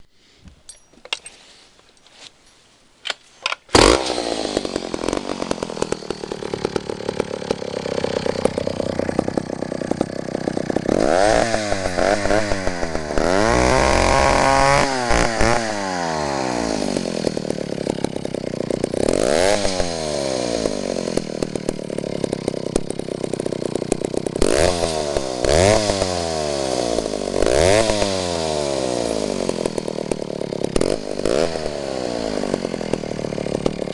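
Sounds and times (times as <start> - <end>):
chainsaw starter clicks: 3.0 - 33.9
chainsaw engine revving: 3.7 - 33.9.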